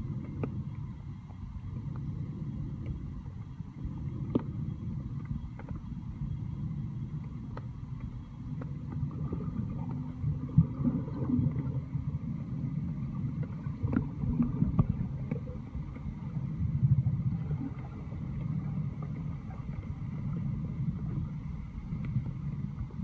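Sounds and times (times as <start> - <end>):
muffled underwater rumble: 0.0 - 23.0.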